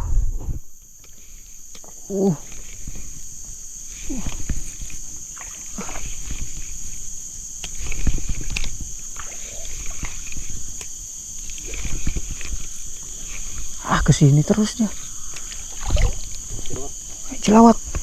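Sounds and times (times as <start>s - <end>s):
forest insects droning: 0.0s - 18.0s
water sloshing and splashing: 1.1s - 17.8s.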